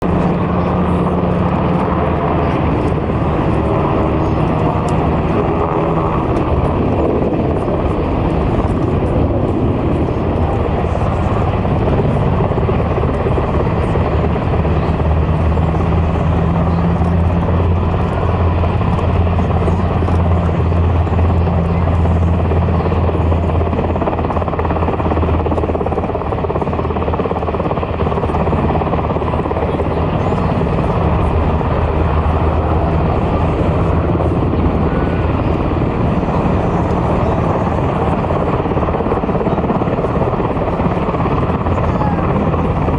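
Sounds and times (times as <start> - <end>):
helicopter running: 0.0 - 42.9.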